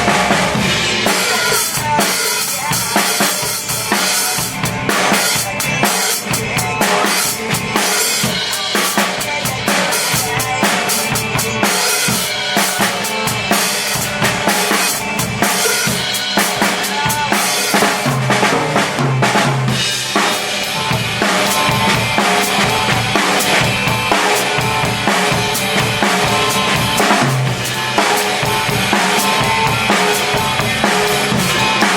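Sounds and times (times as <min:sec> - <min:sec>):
bass and guitars backing track: 0:00.0 - 0:31.9
drum kit playing: 0:00.0 - 0:31.9.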